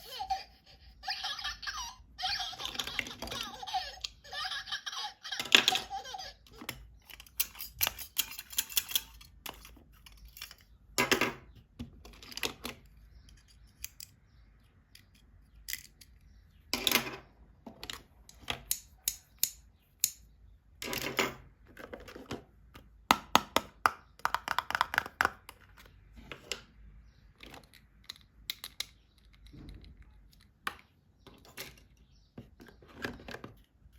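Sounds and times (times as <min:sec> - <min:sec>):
plastic toys clicking and tapping: 0:01.1 - 0:33.9.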